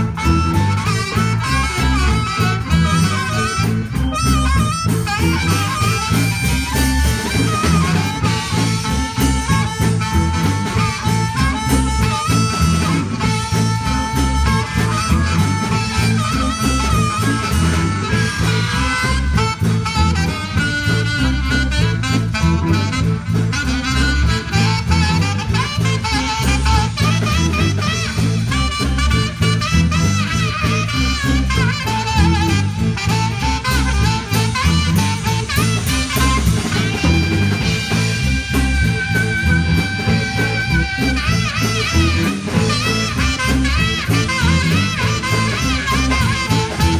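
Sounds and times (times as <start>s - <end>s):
live band playing: 0.0s - 46.9s.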